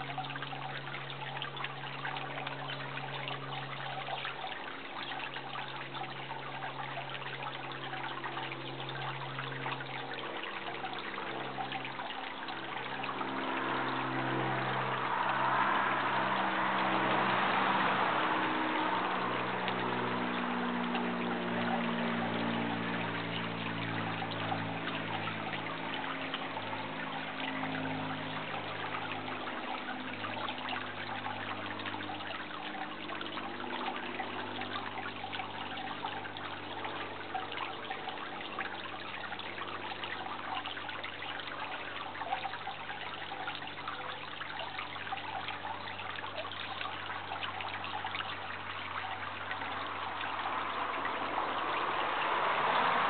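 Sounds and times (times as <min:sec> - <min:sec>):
trickling water: 0:00.0 - 0:53.0.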